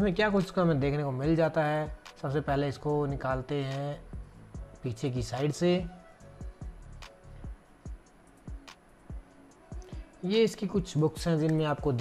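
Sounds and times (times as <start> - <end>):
quiet music with low thumping beat: 0.0 - 12.0.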